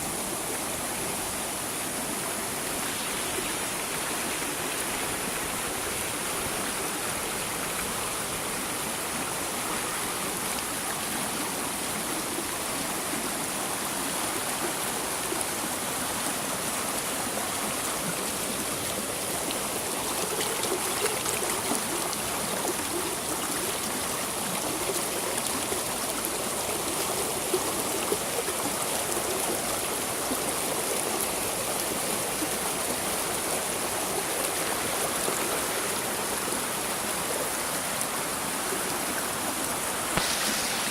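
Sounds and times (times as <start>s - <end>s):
waterfall rushing and splashing: 0.0s - 40.9s.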